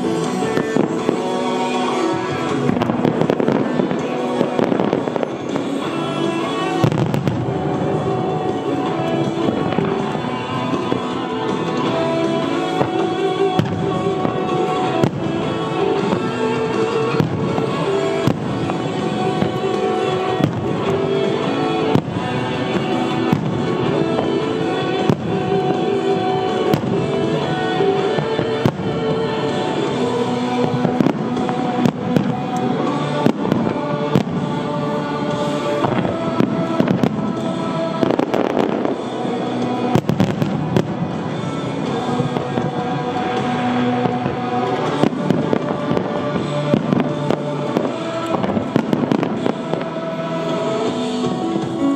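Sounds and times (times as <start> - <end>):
fireworks bursting with bangs: 0.0 - 51.9
loud music: 0.0 - 51.9.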